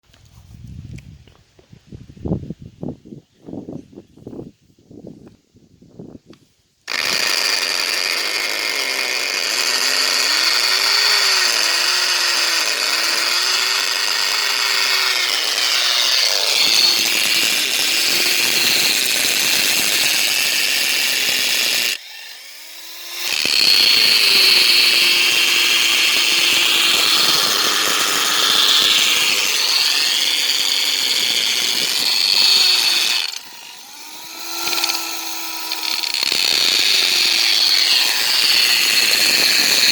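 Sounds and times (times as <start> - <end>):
electric drill drilling: 6.9 - 39.9.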